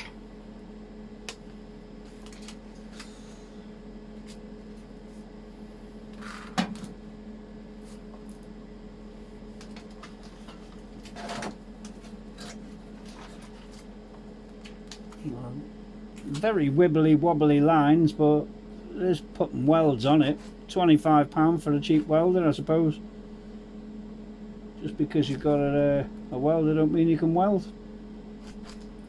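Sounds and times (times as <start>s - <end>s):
welder electrical hum: 0.0s - 29.0s.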